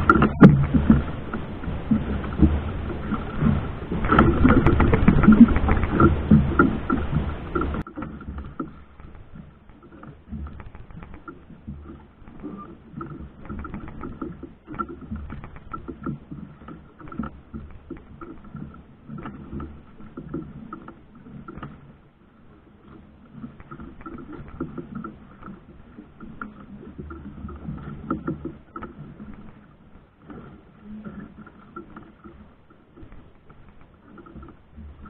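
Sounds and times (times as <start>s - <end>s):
water lapping against boat hull: 0.0s - 35.0s.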